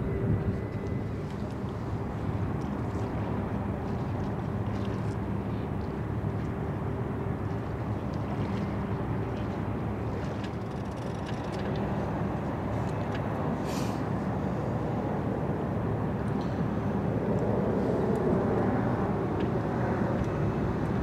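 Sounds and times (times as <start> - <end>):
ship engine rumble: 0.0 - 21.0.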